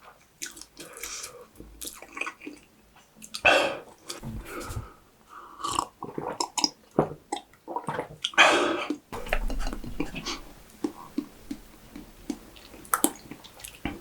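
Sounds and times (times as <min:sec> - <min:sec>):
wet chewing and mouth smacks: 0:00.4 - 0:04.9, 0:05.7 - 0:14.0.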